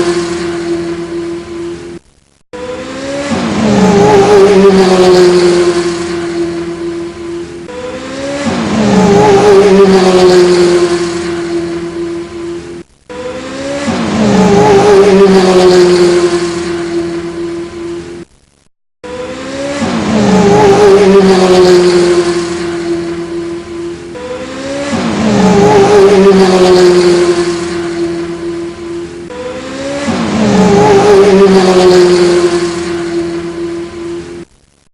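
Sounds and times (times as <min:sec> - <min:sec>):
racing car engine revving: 0:00.0 - 0:02.0, 0:02.6 - 0:18.3, 0:19.0 - 0:34.5.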